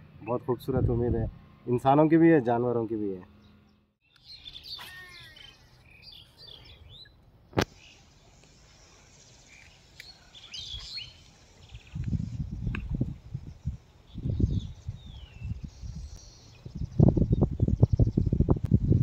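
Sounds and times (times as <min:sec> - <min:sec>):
birds chirping: 0:01.7 - 0:18.6.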